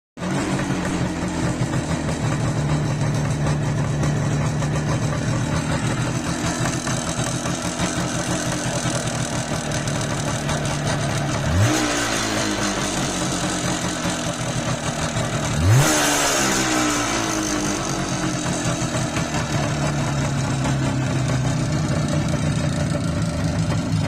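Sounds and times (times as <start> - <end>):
motorcycle engine idling: 0.2 - 24.0.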